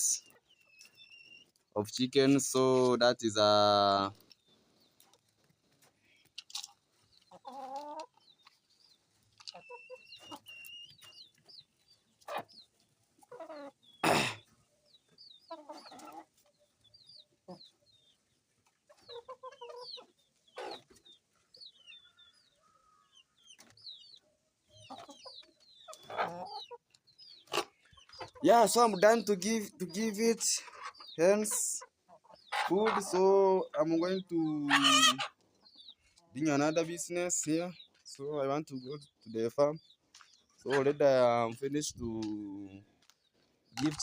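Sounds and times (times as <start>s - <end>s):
chickens clucking and squawking: 0.0s - 44.0s
chicks peeping: 0.0s - 44.0s.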